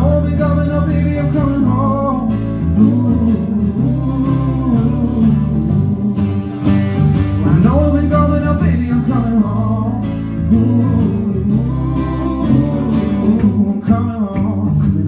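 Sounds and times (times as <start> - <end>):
electric bass notes: 0.0 - 15.0
live pop-rock band: 0.0 - 15.0
strummed guitar chords: 0.0 - 15.0.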